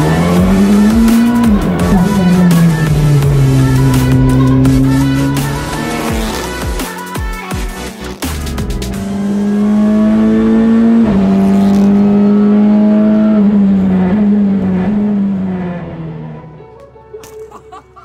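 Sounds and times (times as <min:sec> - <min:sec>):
race car engine at high revs: 0:00.0 - 0:16.4.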